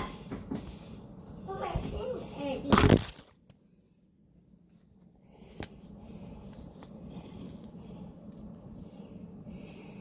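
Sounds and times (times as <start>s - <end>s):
rustling and shuffling: 0.0s - 10.0s.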